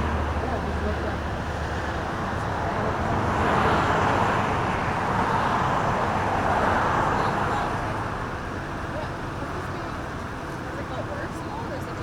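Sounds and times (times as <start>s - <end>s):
car tyre and road noise: 0.0s - 12.0s.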